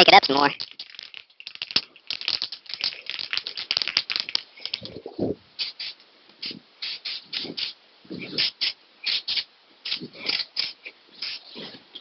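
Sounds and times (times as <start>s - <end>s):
spray can shaken rattling: 0.0s - 11.5s.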